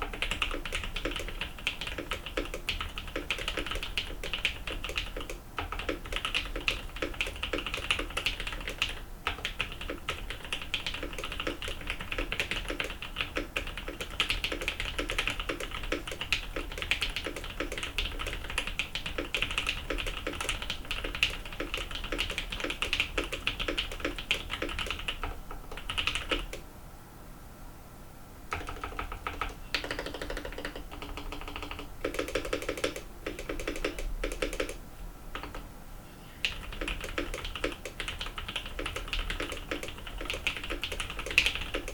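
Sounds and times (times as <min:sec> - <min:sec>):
mechanical keyboard typing: 0:00.0 - 0:26.6, 0:28.5 - 0:35.7, 0:36.4 - 0:41.9.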